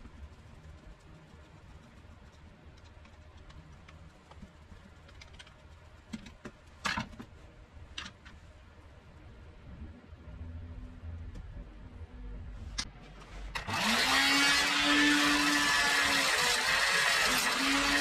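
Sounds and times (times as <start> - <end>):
low steady hum: 0.0 - 16.1.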